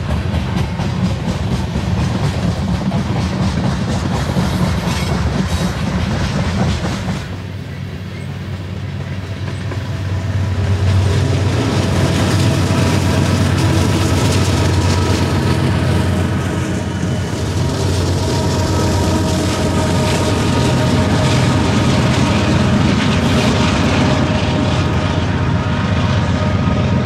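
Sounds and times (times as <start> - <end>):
diesel locomotive drone: 0.0 - 27.0
train wheels clacking over rails: 0.0 - 27.0.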